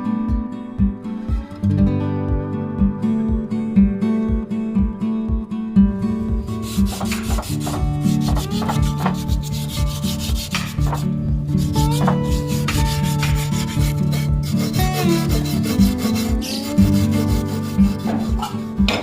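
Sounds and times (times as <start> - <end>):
instrumental pop music: 0.0 - 19.0.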